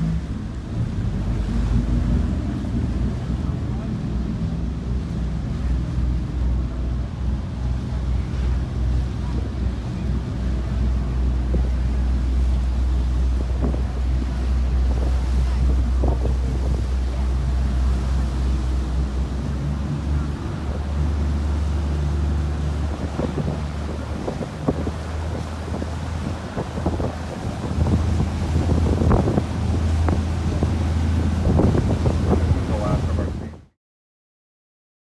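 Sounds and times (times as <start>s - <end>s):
wind buffeting microphone: 0.0s - 33.6s
boat engine droning: 0.0s - 33.7s
water along boat: 0.0s - 33.8s.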